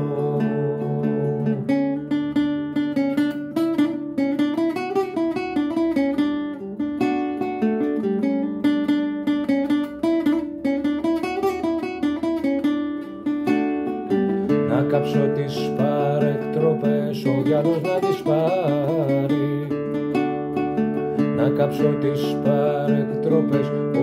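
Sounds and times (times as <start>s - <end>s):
classical guitar playing: 0.0s - 24.0s.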